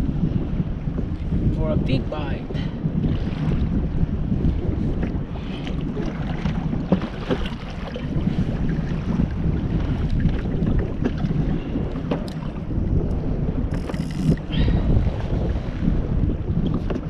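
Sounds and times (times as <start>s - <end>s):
water washing against kayak: 0.0s - 17.0s
wind buffeting microphone: 0.0s - 17.0s.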